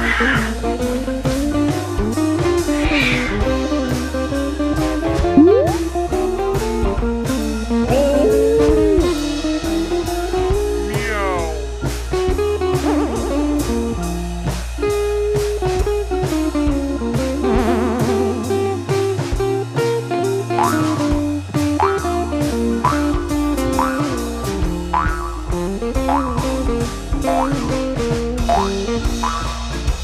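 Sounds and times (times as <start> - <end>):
bass line: 0.0 - 30.0
blues guitar: 0.0 - 30.0
steady drum beat: 0.0 - 30.0.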